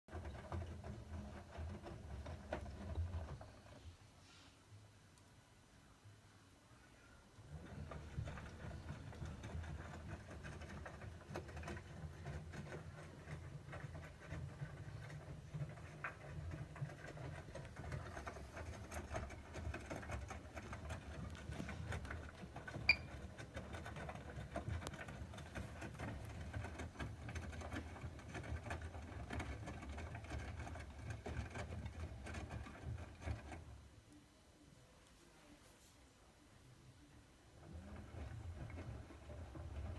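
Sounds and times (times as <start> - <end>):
wet laundry tumbling in drum: 0.1 - 3.8, 7.4 - 33.9, 37.5 - 39.9
washing machine motor hum: 0.1 - 4.2, 7.3 - 34.2, 37.0 - 39.9.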